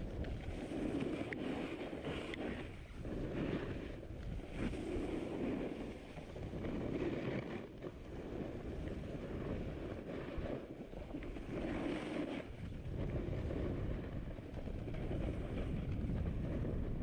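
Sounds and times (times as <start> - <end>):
snowboard scraping over snow: 0.0 - 17.0
wind buffeting microphone: 0.0 - 17.0.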